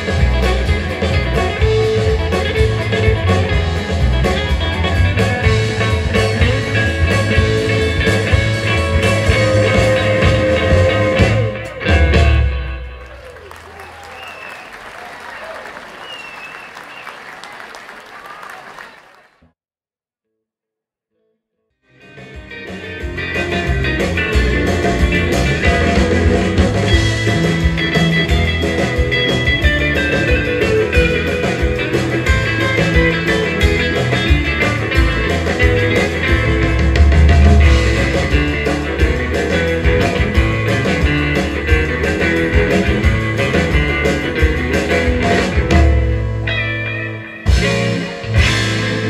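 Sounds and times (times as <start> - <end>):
electric lead guitar: 0.0 - 13.6, 21.9 - 49.0
instrumental rock band playing: 0.0 - 17.2, 21.9 - 49.0.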